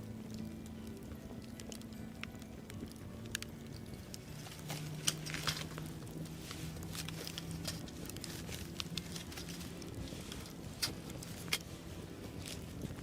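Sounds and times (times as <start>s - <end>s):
soft slow background music: 0.0s - 13.0s
wood fire crackling and popping: 0.0s - 13.0s.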